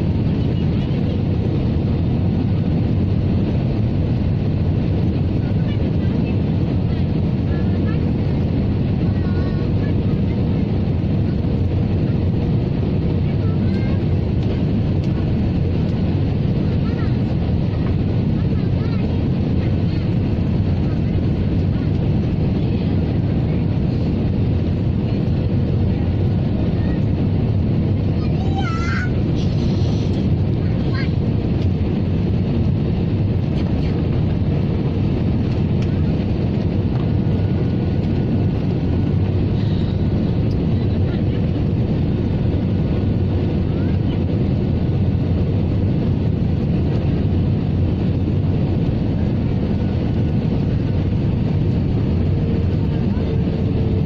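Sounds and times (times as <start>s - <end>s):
airflow over fuselage: 0.0s - 54.0s
airplane cabin engine rumble: 0.0s - 54.0s.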